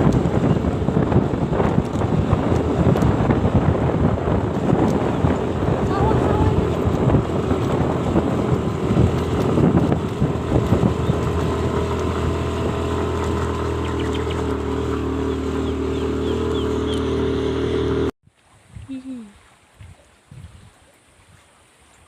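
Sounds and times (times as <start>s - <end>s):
vehicle engine running: 0.0s - 18.2s.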